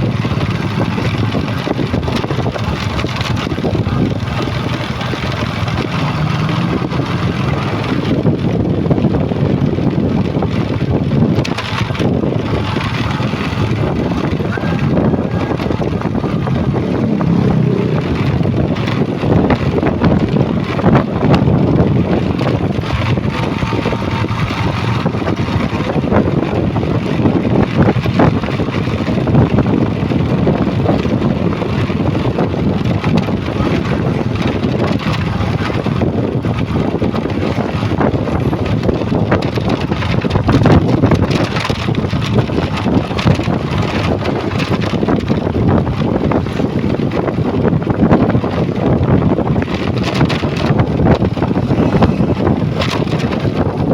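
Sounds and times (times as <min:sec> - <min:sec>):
truck engines rumbling: 0:00.0 - 0:53.9
wind buffeting microphone: 0:00.0 - 0:53.9.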